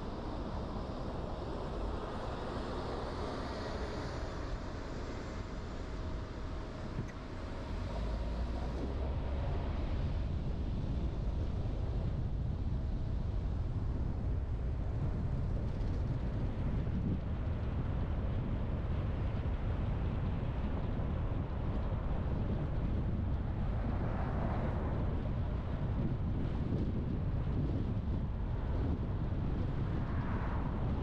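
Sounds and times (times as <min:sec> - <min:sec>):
car driving on road: 0:00.0 - 0:31.0.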